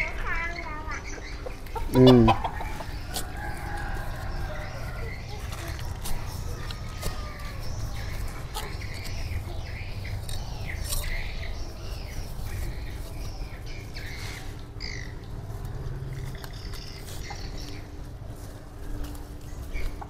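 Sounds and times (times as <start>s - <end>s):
birds squawking and chirping: 0.0s - 20.0s.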